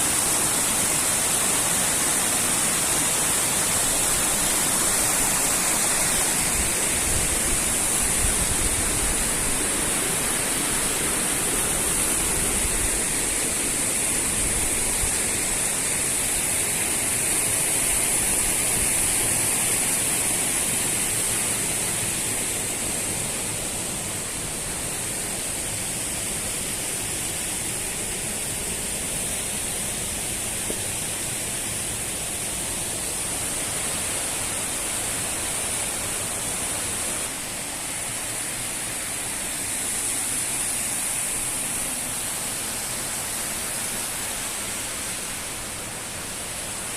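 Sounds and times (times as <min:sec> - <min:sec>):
water rushing over rocks: 0:00.0 - 0:46.9.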